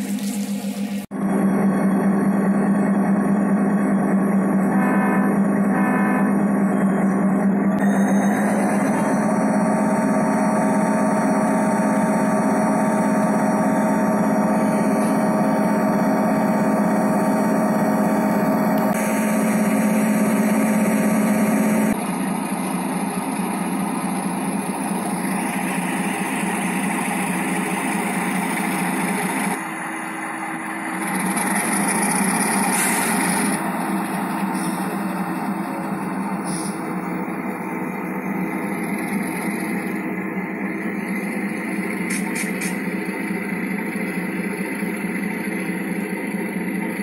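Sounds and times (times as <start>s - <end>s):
diesel locomotive engine humming: 0.0s - 47.0s.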